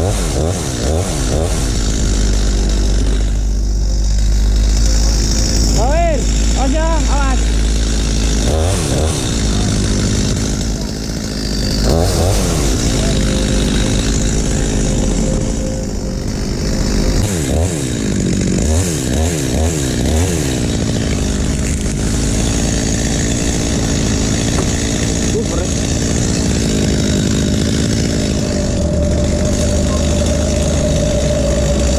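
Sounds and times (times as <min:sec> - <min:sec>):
chainsaw engine revving: 0:00.0 - 0:31.9.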